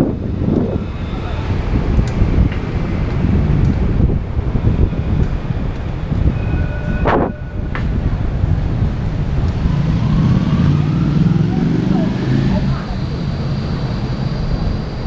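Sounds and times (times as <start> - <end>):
bicycle road noise: 0.0 - 15.0
car and tram traffic: 0.0 - 15.0
wind on microphone: 0.0 - 15.0.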